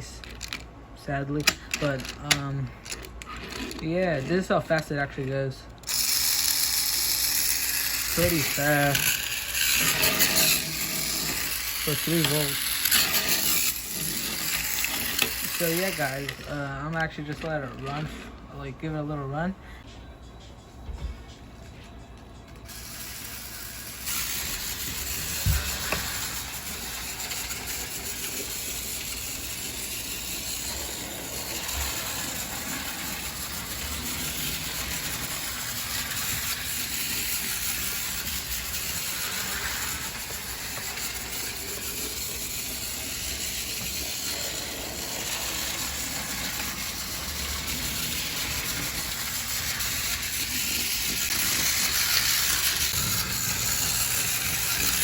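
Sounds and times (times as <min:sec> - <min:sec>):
toy train motor whirring: 0:00.0 - 0:00.7, 0:01.3 - 0:18.4, 0:22.4 - 0:55.0.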